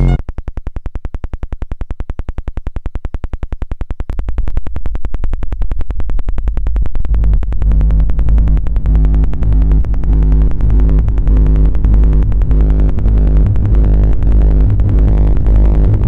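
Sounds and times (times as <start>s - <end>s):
heavy bass: 0.0s - 16.0s
synthesizer stuttering pulses: 0.0s - 16.0s.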